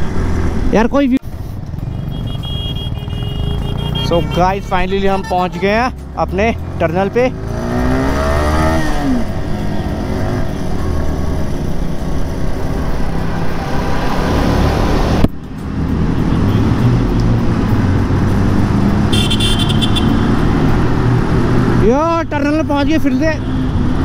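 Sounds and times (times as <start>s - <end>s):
motorcycle engine: 0.0s - 24.0s
wind and road noise: 0.0s - 24.0s.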